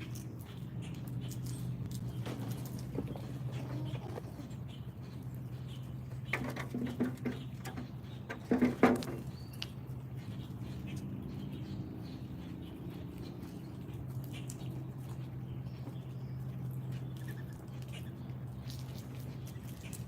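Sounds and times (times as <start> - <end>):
animals scratching and pecking: 0.0 - 20.0
steady low hum: 0.0 - 20.0.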